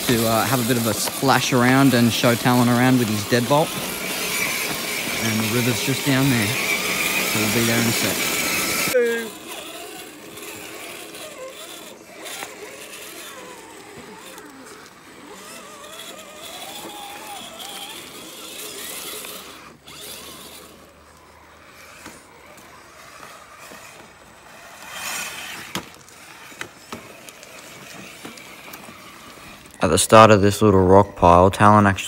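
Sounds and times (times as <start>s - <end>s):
electric motors whining: 0.0s - 32.0s.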